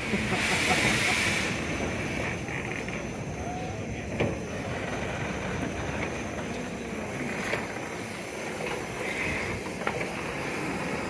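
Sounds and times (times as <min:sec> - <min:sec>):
steam locomotive rumbling: 0:00.0 - 0:11.0.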